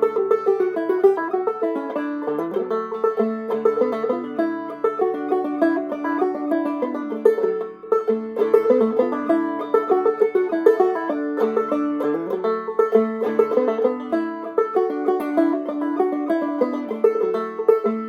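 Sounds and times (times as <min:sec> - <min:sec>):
banjo plucked notes: 0:00.0 - 0:18.0.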